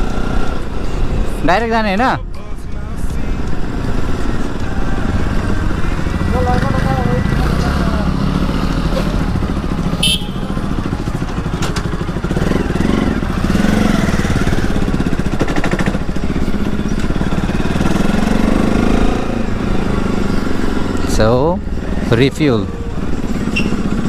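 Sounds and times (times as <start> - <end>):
motorcycle engine running: 2.8 - 24.0.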